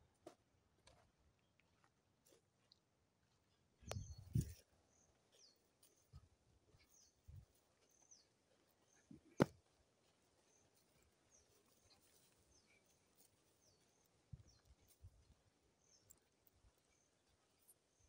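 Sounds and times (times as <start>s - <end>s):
small birds chirping: 2.3s - 18.0s.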